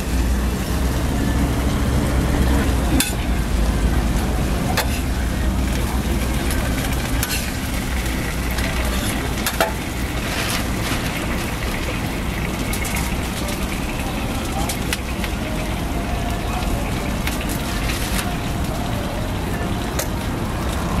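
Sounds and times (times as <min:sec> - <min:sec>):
faint griddle sizzling: 0:00.0 - 0:21.0.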